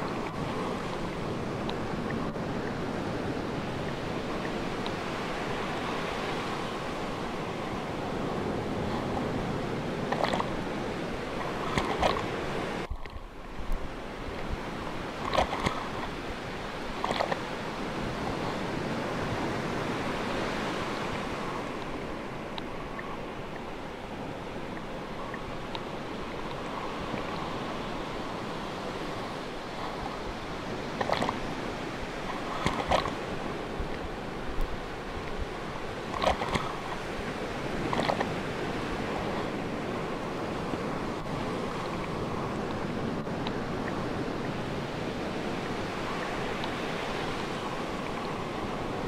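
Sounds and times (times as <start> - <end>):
sea waves washing: 0.0 - 49.0.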